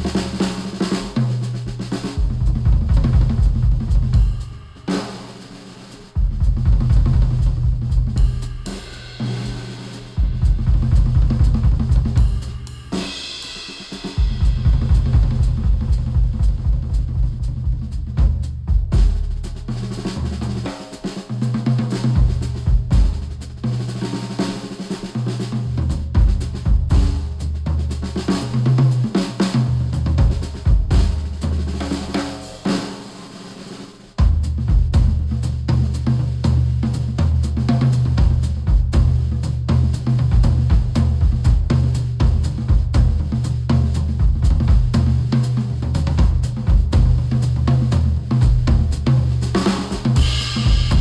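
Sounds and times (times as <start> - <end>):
drum-driven instrumental music: 0.0 - 51.0.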